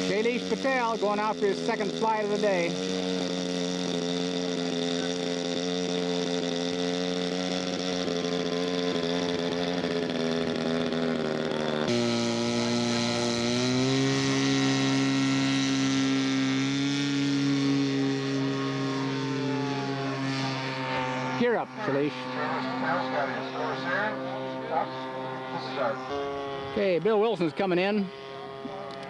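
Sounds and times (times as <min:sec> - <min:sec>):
model airplane engine running: 0:00.0 - 0:29.0.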